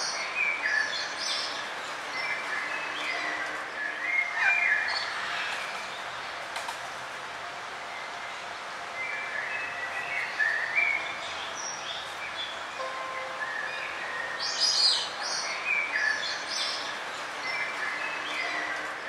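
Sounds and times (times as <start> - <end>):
forest birds chirping: 0.0 - 19.0
steady background hiss: 0.2 - 19.0.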